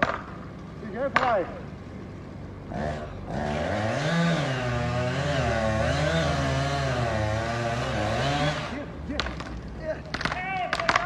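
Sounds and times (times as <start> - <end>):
engine running under load: 0.0 - 11.0.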